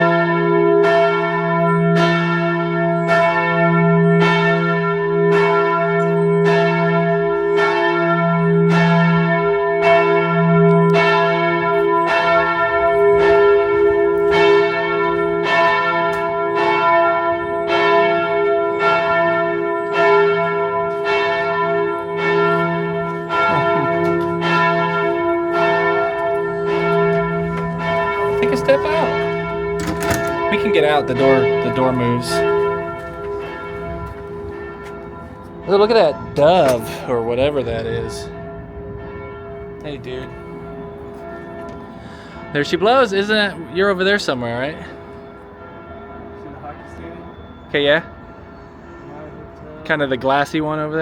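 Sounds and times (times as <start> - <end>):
loud church bell ringing: 0.0 - 51.0.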